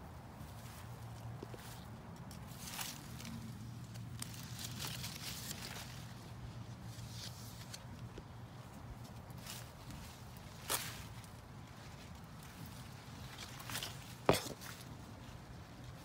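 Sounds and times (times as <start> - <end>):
footsteps on grass and soil: 0.2 - 16.0.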